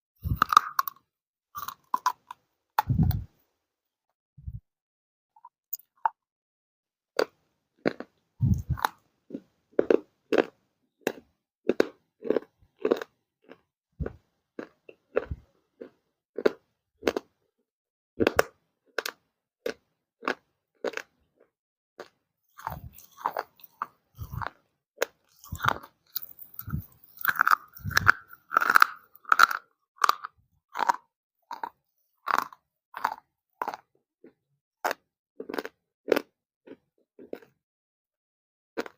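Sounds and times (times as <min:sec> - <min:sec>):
crunchy clay being chewed: 0:00.2 - 0:01.0, 0:01.6 - 0:03.3, 0:07.2 - 0:17.3, 0:18.2 - 0:37.6.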